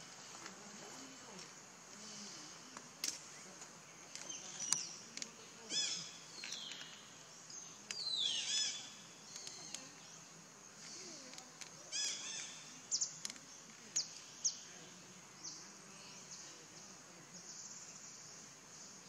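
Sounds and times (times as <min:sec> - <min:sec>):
birds chirping: 0:00.0 - 0:19.0
low background noise: 0:00.0 - 0:19.0.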